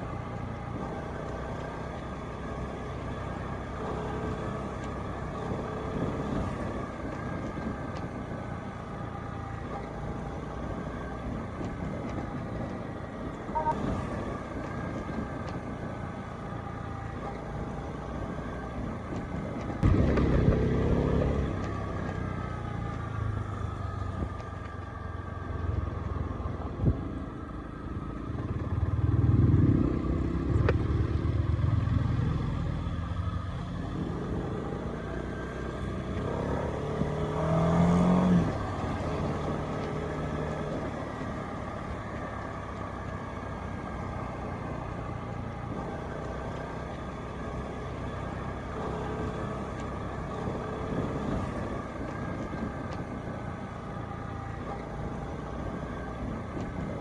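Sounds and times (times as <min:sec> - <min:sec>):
motorcycle engine revving: 0:00.0 - 0:25.8, 0:28.0 - 0:57.0
road and wind rumble: 0:00.0 - 0:57.0.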